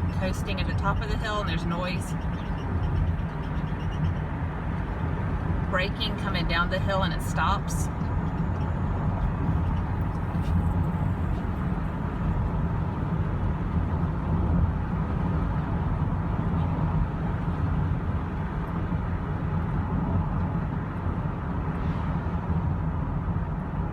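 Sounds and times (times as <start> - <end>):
road and drivetrain rumble in car: 0.0 - 23.9.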